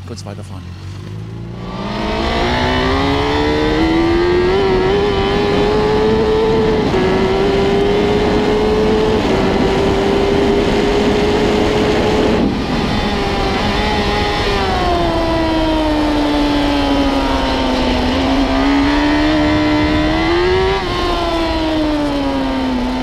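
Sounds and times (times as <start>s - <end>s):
motorcycle engine revving: 0.6s - 23.0s.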